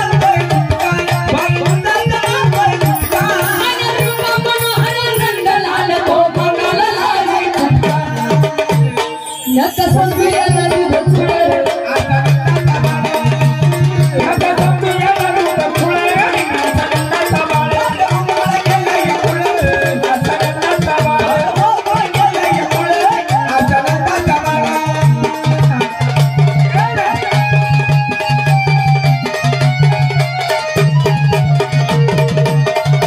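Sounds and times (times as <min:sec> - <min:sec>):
repeating drum beat: 0:00.0 - 0:33.0.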